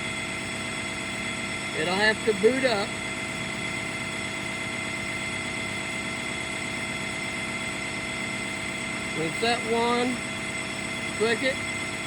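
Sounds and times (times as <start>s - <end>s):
machine whining: 0.0s - 12.0s.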